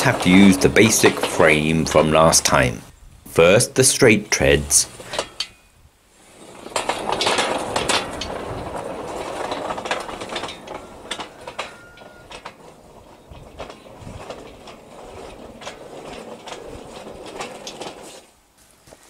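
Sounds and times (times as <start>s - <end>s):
steel wheels rolling on rails: 0.0s - 19.0s.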